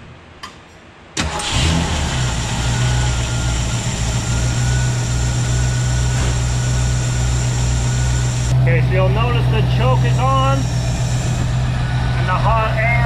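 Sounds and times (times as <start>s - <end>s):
car engine starting and idling: 1.2s - 13.0s.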